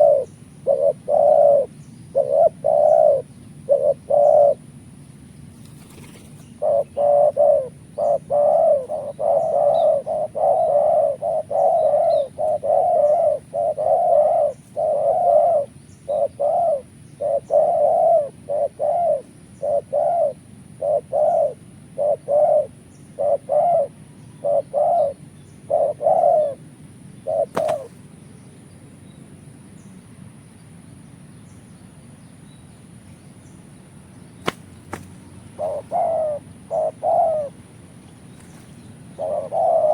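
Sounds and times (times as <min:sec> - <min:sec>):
doves cooing: 0:00.0 - 0:04.7, 0:05.6 - 0:28.1, 0:34.4 - 0:39.9.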